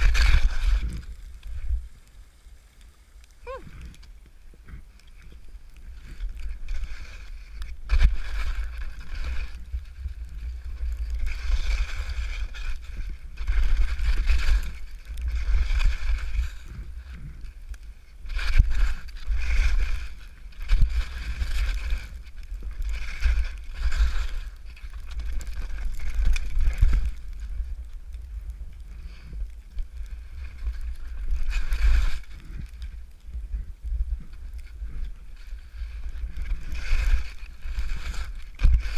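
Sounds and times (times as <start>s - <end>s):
skis swishing through powder: 0.0s - 38.9s
wind rumble on microphone: 0.0s - 38.9s.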